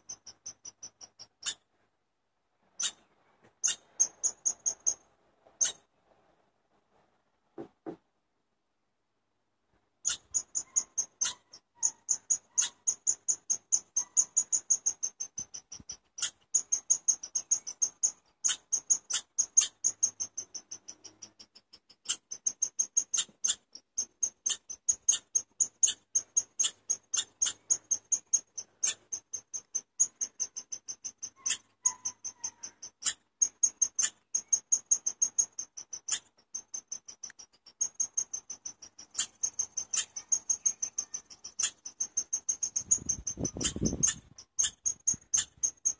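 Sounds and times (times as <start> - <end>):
chipmunk chirping: 0.0 - 1.6, 2.8 - 5.0, 5.6 - 5.8, 10.0 - 45.9.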